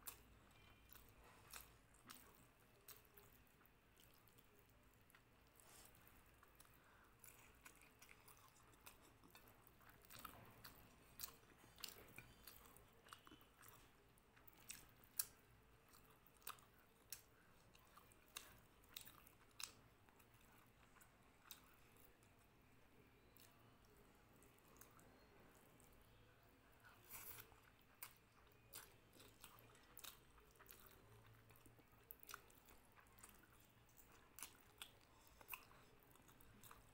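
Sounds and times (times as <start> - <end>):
close-up chewing: 0.0 - 22.5, 23.2 - 36.9.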